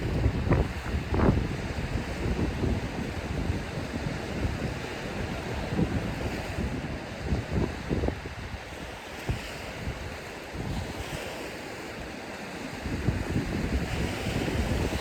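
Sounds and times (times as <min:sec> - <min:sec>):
wind buffeting microphone: 0:00.0 - 0:11.2, 0:12.6 - 0:15.0
surf washing onto beach: 0:00.0 - 0:15.0.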